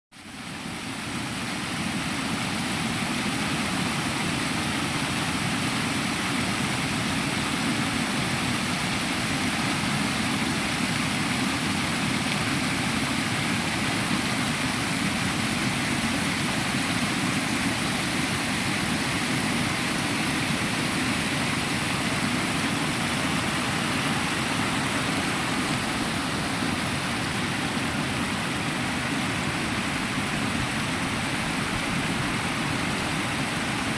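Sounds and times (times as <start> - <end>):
water rushing: 0.2 - 33.9.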